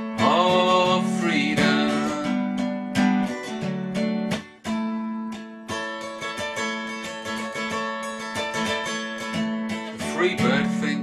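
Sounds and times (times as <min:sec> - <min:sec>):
acoustic guitar picked and strummed: 0:00.0 - 0:11.0.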